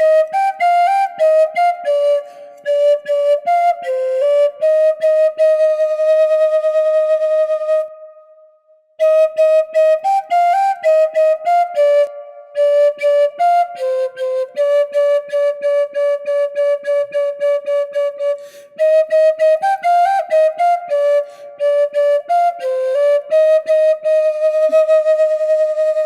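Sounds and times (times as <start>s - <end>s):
flute-like wind instrument melody: 0.0s - 26.0s.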